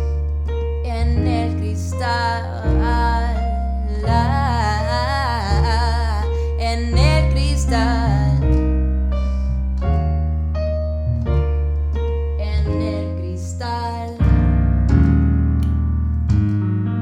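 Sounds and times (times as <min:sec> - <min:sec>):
deep bass: 0:00.0 - 0:17.0
electric piano chords: 0:00.0 - 0:17.0.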